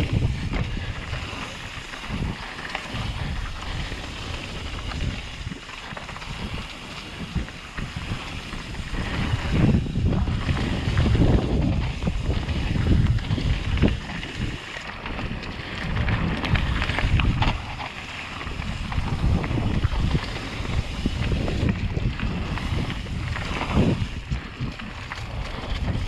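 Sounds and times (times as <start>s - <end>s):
tyres crunching over dirt: 0.0s - 26.0s
wind buffeting microphone: 0.0s - 26.0s
bike clicks and knocks: 0.1s - 26.0s.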